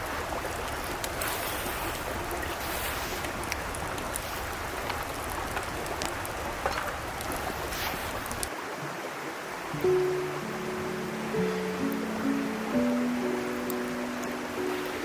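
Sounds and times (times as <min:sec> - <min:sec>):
mountain stream babbling: 0:00.0 - 0:15.0.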